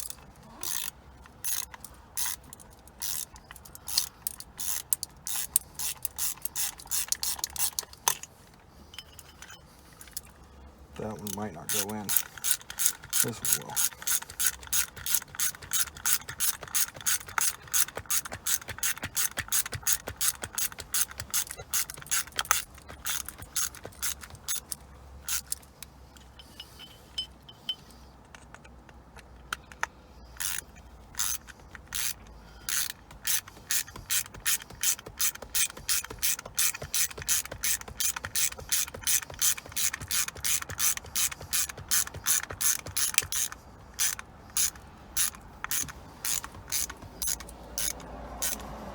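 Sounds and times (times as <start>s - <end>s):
hand ratchet clicking: 0.0s - 8.3s, 11.1s - 27.0s, 27.6s - 48.9s.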